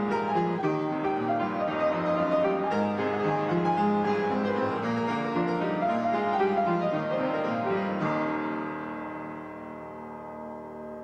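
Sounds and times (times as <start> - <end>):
solo piano music: 0.0 - 11.0.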